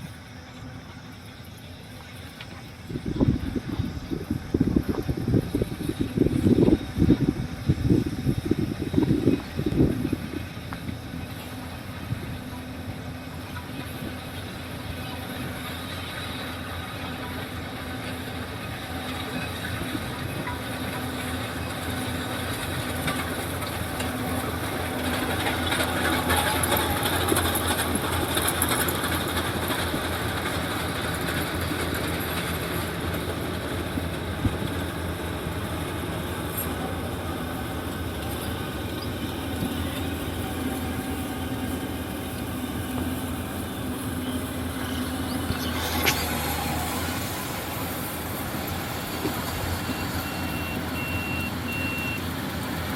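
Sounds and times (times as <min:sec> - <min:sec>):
combine harvester clattering: 0:00.0 - 0:52.9.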